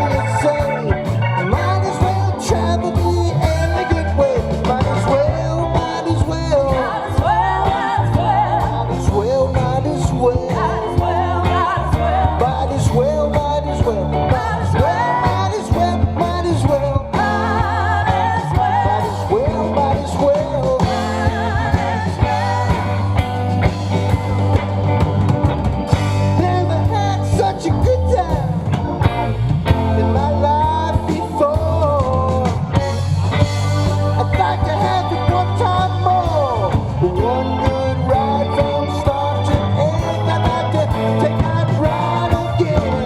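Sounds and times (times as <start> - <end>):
bass guitar: 0.0 - 43.0
drum kit: 0.0 - 43.0
electric guitar lead: 0.0 - 43.0.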